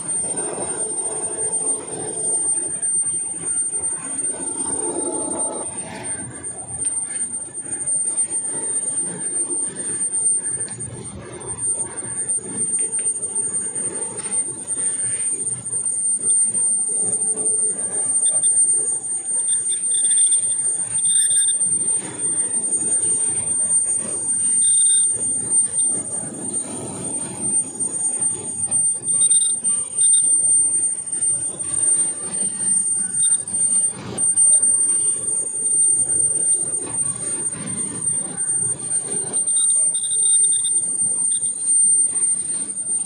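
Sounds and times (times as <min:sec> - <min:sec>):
high-pitched machine whine: 0:00.0 - 0:43.0
machinery rumble and clatter: 0:00.0 - 0:43.0.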